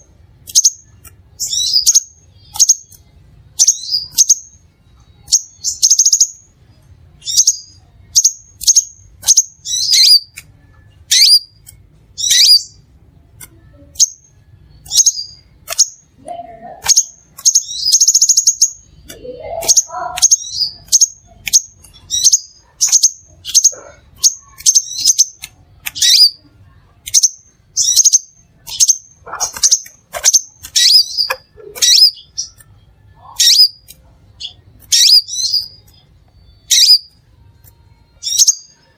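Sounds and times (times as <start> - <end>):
bird singing high chirps: 0.5 - 6.5, 7.2 - 10.4, 11.0 - 12.9, 13.6 - 26.4, 27.0 - 37.2, 38.1 - 38.9.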